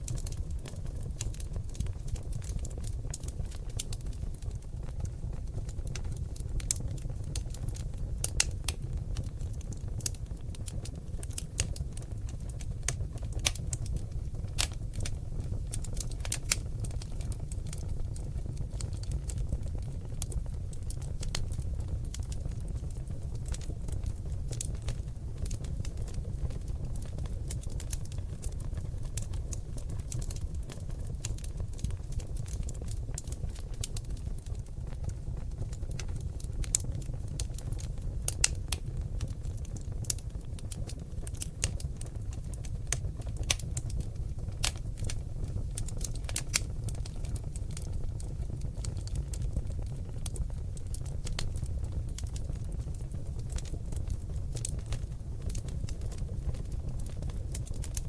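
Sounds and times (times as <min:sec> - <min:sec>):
logs crackling and popping: 0:00.0 - 0:58.0
low rumble of fire: 0:00.0 - 0:58.0.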